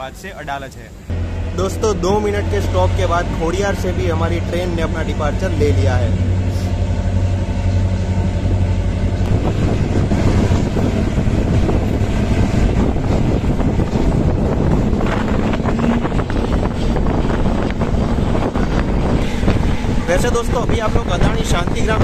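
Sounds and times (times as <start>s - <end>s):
diesel train engine: 0.0s - 22.0s
train wheels rumbling on track: 1.1s - 22.0s
wind buffeting microphone: 1.1s - 22.0s.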